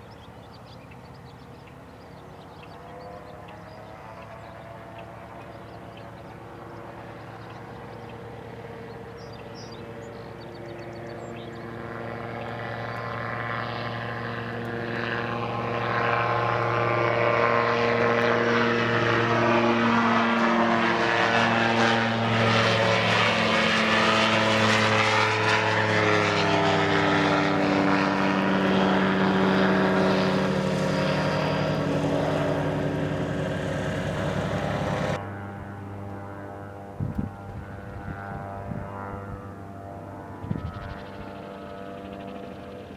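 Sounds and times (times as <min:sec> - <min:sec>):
gyrocopter engine and propeller: 0:00.0 - 0:42.9.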